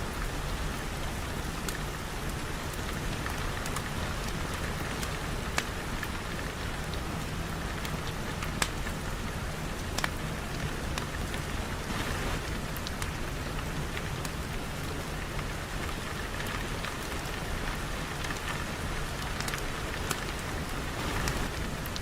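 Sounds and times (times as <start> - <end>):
steady rain hiss: 0.0 - 22.0
raindrop ticks: 0.1 - 22.0.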